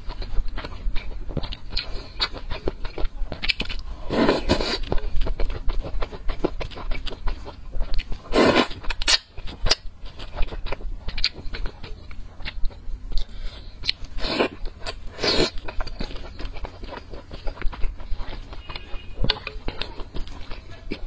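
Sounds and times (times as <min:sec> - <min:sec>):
wet chewing and mouth clicks: 0:00.0 - 0:21.0.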